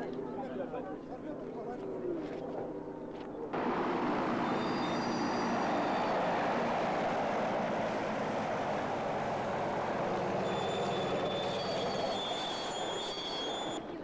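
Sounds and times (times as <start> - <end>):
biplane radial engine roaring: 2.2 - 14.0.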